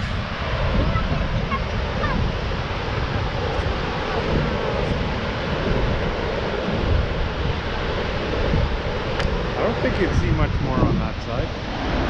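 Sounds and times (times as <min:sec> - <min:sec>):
waterfall roaring: 0:00.0 - 0:10.5.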